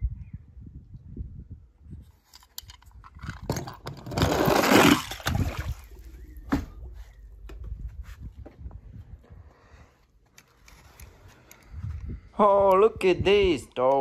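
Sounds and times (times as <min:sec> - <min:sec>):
wind rumble on microphone: 0:00.0 - 0:04.4, 0:05.0 - 0:09.9, 0:11.0 - 0:13.8.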